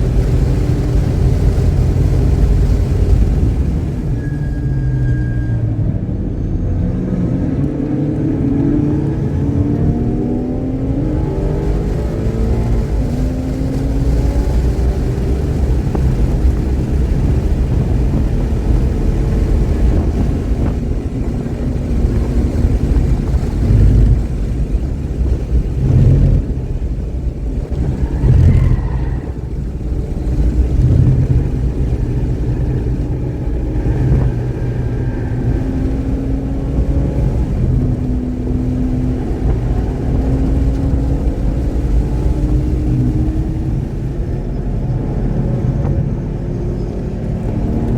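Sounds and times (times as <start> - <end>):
race car engine revving: 6.2 - 47.9.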